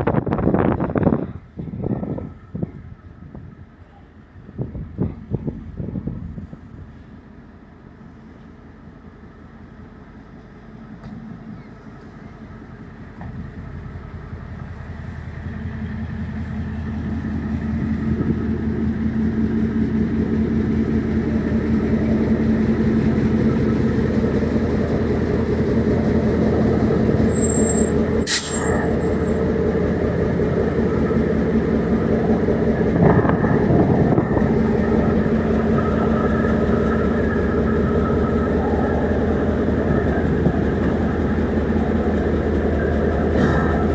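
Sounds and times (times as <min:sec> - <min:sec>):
train engine humming: 0:00.0 - 0:43.9.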